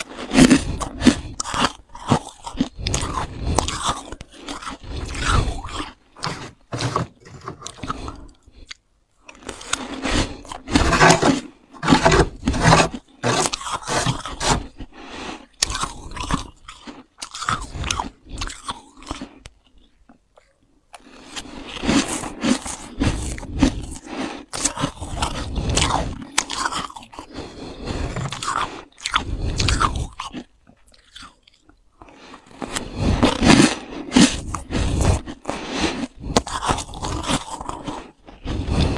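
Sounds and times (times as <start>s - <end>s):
frost being chewed: 0.0s - 38.9s.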